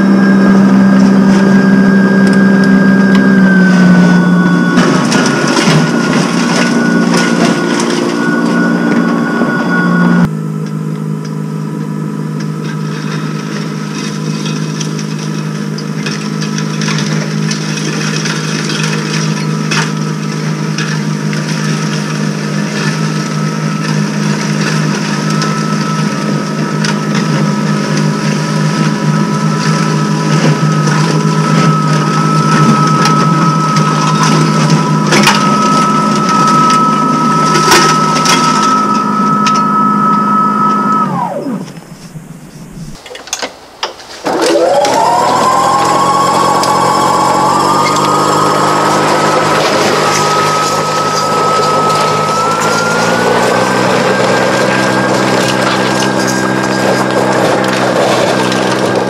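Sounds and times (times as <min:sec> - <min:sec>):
electric snowblower running: 0:00.0 - 0:43.0, 0:44.2 - 0:59.0.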